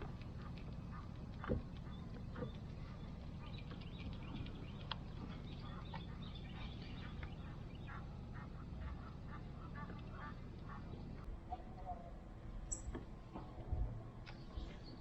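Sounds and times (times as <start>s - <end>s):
birds calling: 0.0s - 13.6s
low background rumble: 0.0s - 15.0s.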